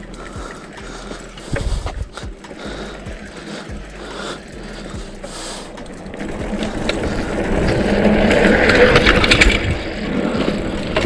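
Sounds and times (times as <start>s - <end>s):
bike rattling over bumps: 0.0s - 11.0s
bike tyres rumbling on dirt: 0.0s - 11.0s.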